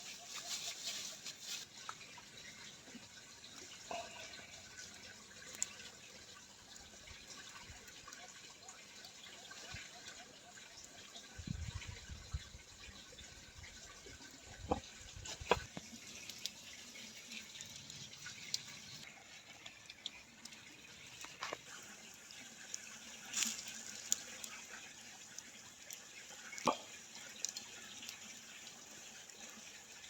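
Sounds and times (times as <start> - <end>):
water trickling and dripping: 0.0 - 30.0.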